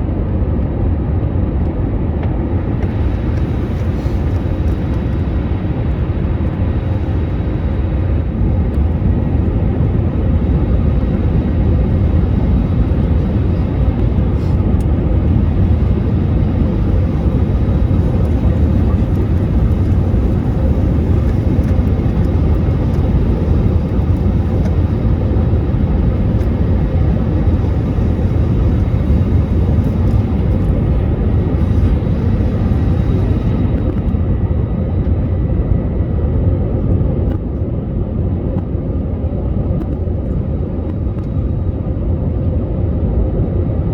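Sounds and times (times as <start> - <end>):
jet engines rumbling: 0.0 - 43.9.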